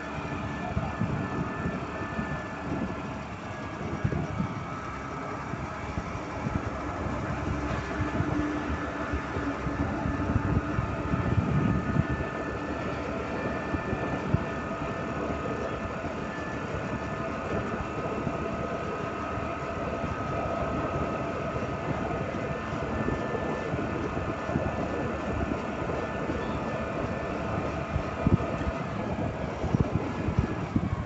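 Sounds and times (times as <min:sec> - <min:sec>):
wind gusting on microphone: 0:00.0 - 0:31.0.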